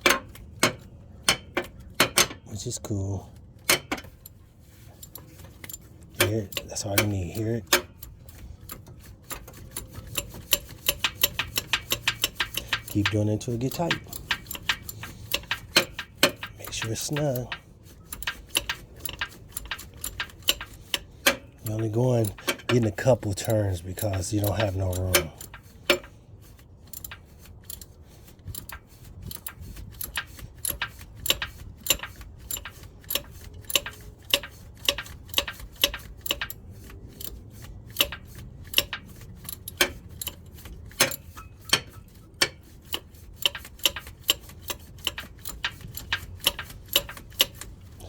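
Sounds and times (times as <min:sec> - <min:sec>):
socket ratchet clicking: 0:05.0 - 0:48.0.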